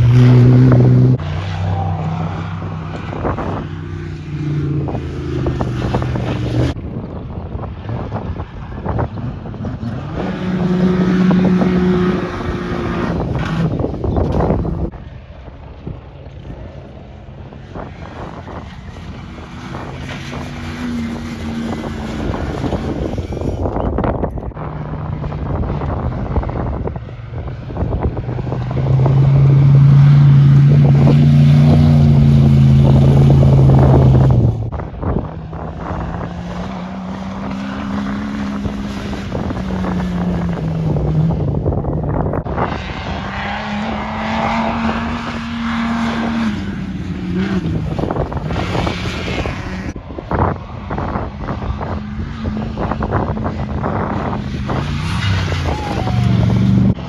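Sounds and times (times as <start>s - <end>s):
race truck engines revving: 0.0s - 57.0s
wind buffeting microphone: 0.0s - 57.0s.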